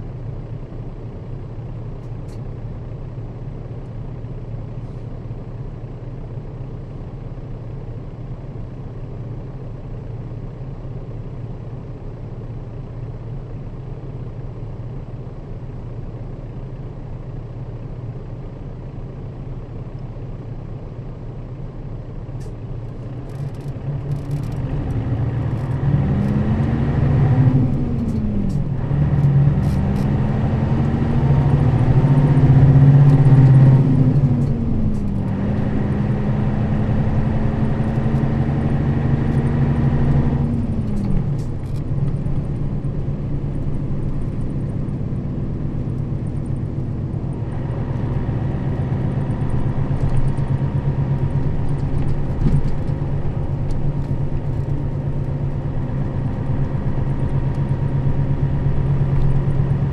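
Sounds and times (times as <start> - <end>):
bus diesel engine with gear changes: 0.0 - 59.9.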